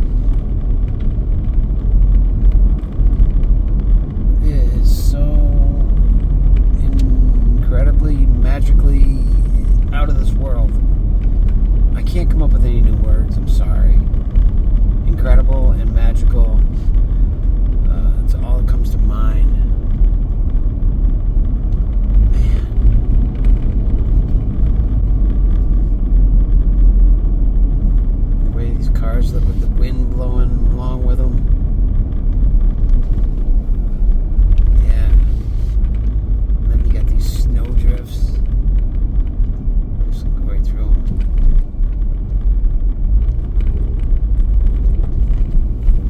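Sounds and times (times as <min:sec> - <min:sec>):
vehicle road and engine rumble: 0:00.0 - 0:46.0.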